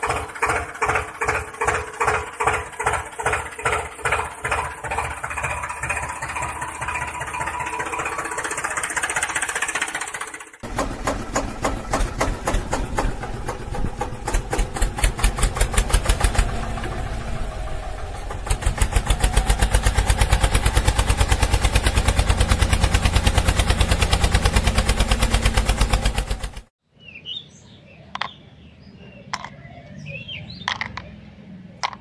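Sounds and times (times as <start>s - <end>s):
tractor engine pulsing: 0.0s - 26.7s, 29.2s - 32.0s.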